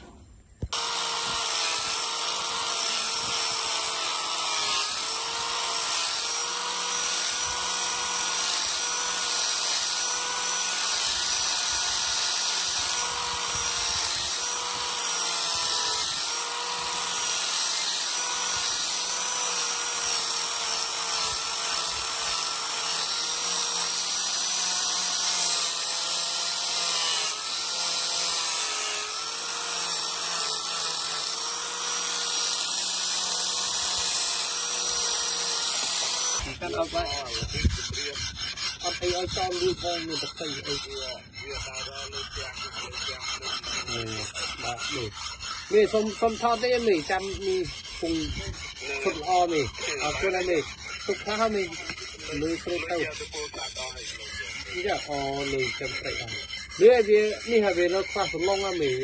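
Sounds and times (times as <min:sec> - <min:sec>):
grinder on steel: 0:00.0 - 0:59.0.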